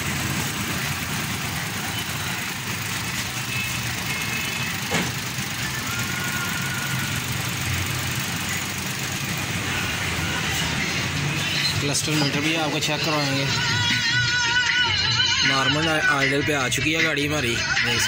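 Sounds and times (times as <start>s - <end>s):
car engine idling: 0.0s - 15.1s.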